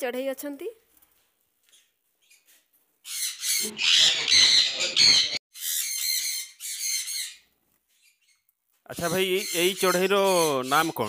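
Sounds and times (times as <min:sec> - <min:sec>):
parrots squawking: 0:01.7 - 0:11.0.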